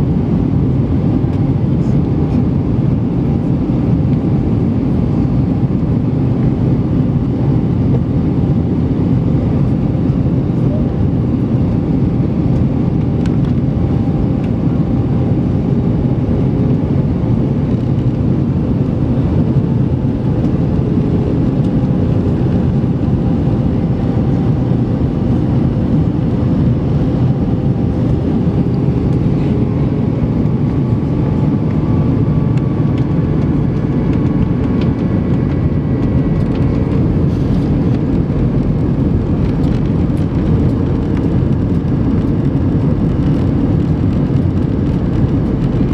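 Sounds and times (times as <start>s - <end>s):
airflow rush and engine drone: 0.0s - 45.9s
faint engine whine: 0.0s - 45.9s.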